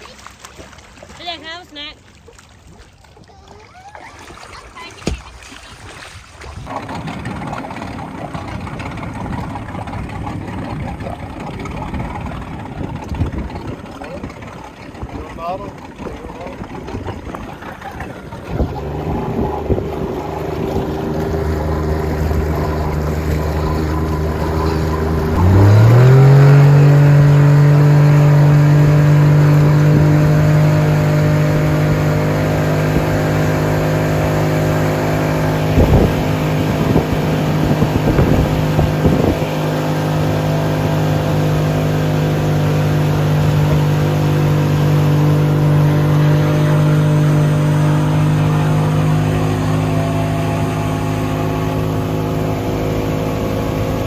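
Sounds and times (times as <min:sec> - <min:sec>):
motorboat engine revving: 0:03.5 - 0:54.0.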